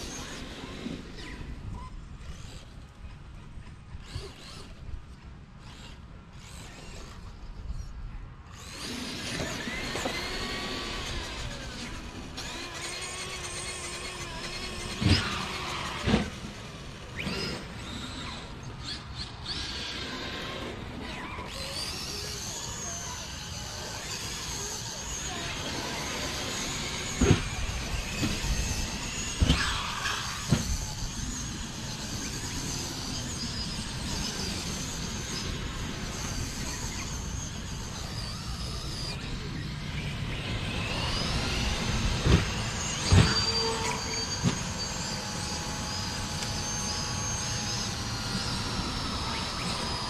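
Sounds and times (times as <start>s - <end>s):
electric toy car motors whining: 0.0s - 50.0s.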